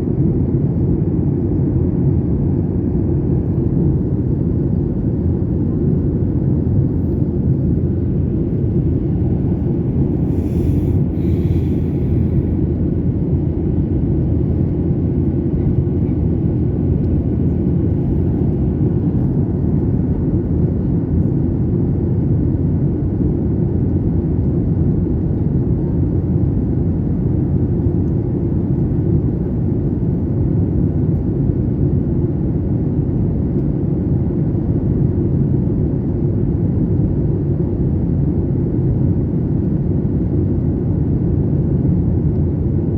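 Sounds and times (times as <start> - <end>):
jet engines rumbling in cabin: 0.0 - 42.9.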